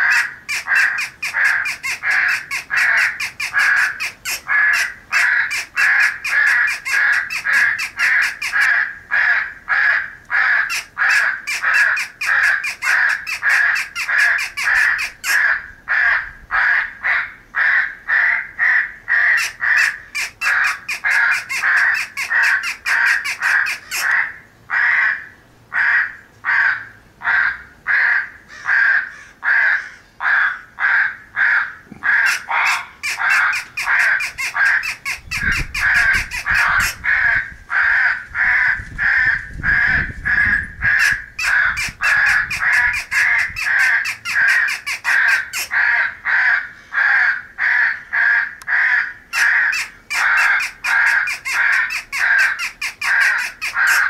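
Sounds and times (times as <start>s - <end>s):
crows cawing: 0.0s - 54.0s.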